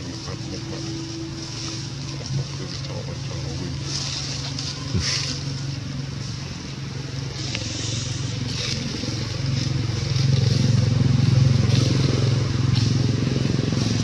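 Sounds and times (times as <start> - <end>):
small engine humming: 0.0 - 14.0.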